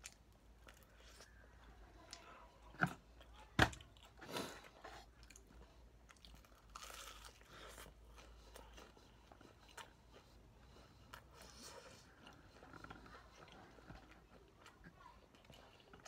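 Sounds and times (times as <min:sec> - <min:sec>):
crunching of fried chicken: 0:00.0 - 0:16.0
soft chewing: 0:00.0 - 0:16.0.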